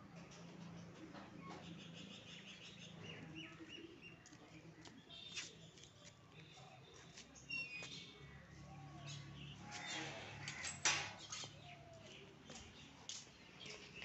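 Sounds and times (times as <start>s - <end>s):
light outdoor background: 0.0s - 14.0s.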